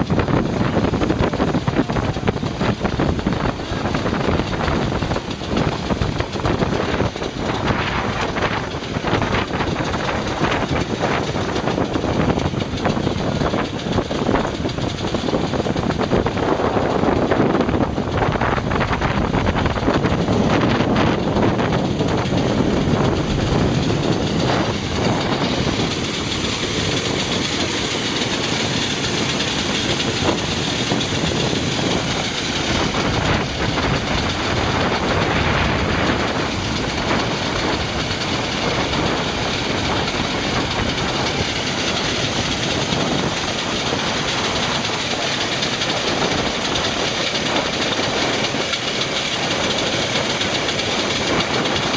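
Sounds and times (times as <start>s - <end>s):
vehicle engine noise: 0.0s - 51.9s
light rattling: 0.3s - 51.9s.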